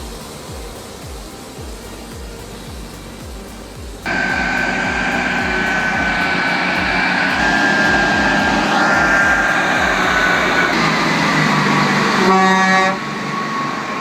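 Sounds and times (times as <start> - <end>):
loud engine with high whine: 0.0 - 14.0.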